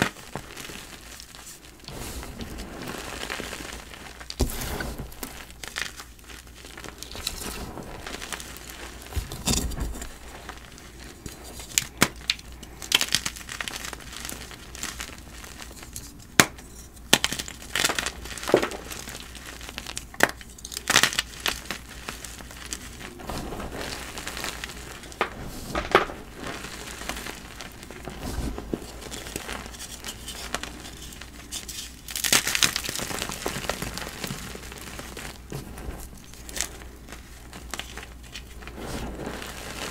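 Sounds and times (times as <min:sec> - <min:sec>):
chalk blocks crunching: 0:00.0 - 0:13.4, 0:15.6 - 0:39.9
soft crumbling: 0:00.0 - 0:39.9.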